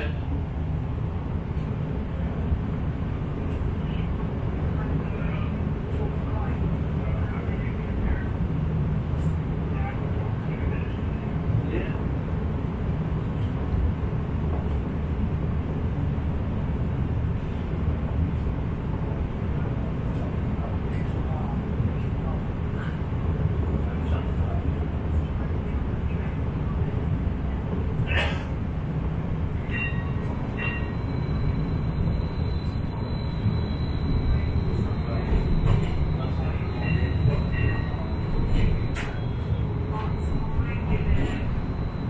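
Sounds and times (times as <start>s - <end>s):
streetcar interior low rumble: 0.0s - 42.0s.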